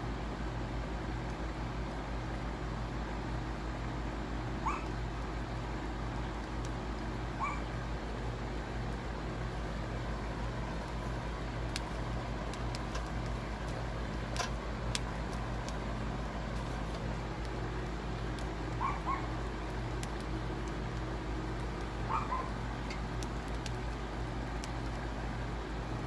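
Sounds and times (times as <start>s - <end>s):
steady low hum: 0.0s - 26.0s
wood fire crackling and popping: 0.0s - 26.0s.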